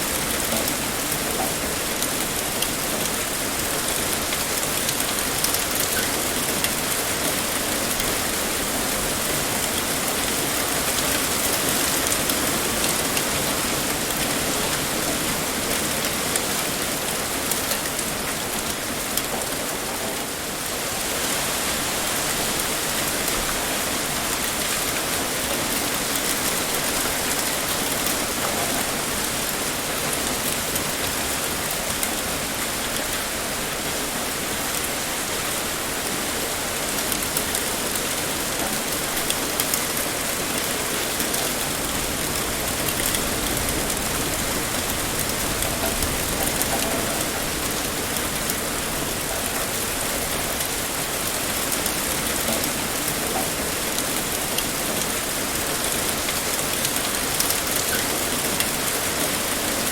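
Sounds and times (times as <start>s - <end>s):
heavy rain on a hard surface: 0.0s - 59.9s.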